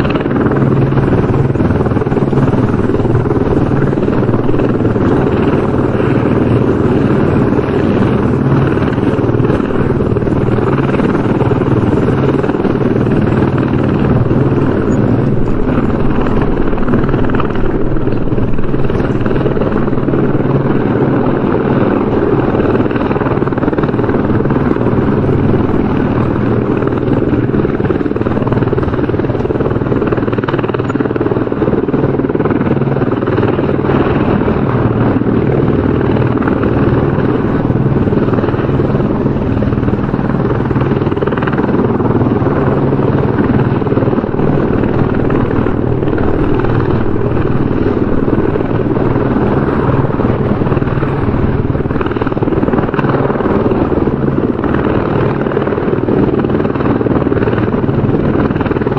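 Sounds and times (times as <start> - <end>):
helicopter rotor and engine: 0.0 - 58.9.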